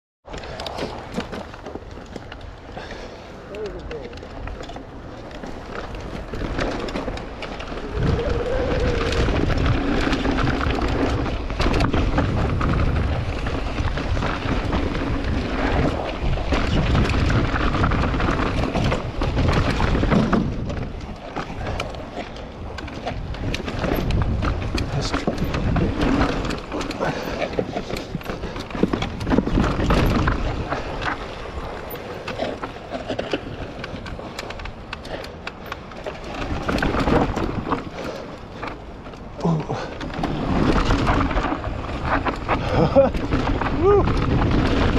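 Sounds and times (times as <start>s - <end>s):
bike tyres rolling over dirt: 0.2s - 44.9s
bike knocks and rattles: 0.3s - 44.9s
wind on microphone: 3.5s - 44.9s.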